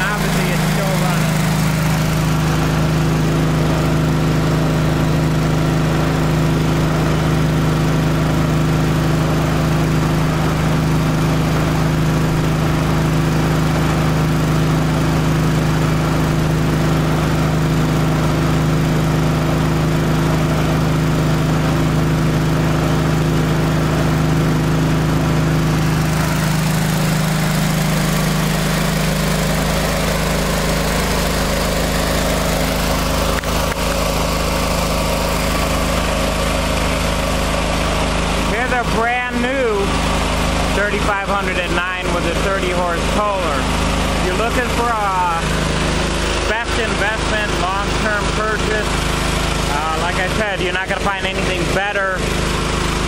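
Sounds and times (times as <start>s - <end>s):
pressure washer engine running: 0.0s - 53.0s.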